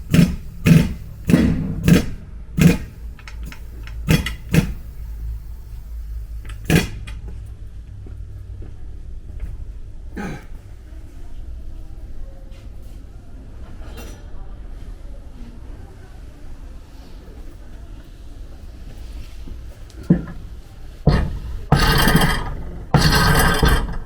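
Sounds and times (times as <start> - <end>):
steady low hum: 0.0 - 13.6, 17.6 - 24.0.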